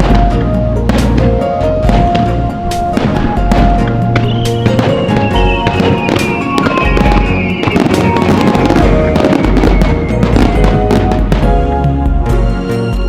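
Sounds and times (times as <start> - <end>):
fireworks banging and crackling: 0.0 - 11.8
loud music: 0.0 - 13.0.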